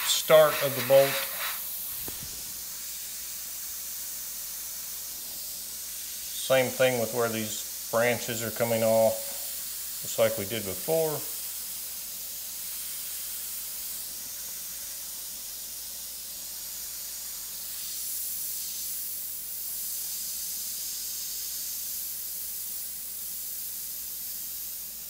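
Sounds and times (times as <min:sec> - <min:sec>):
airbrush hissing: 0:00.0 - 0:25.0.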